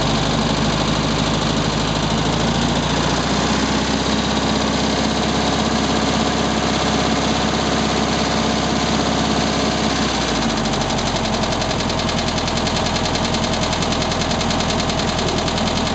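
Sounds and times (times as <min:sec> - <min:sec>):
car engine knocking: 0:00.0 - 0:15.9
rapid even engine clatter: 0:00.0 - 0:15.9.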